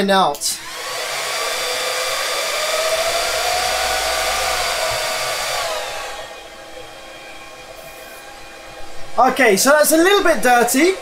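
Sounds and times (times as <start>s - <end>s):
cooling fan rushing: 0.3s - 11.0s.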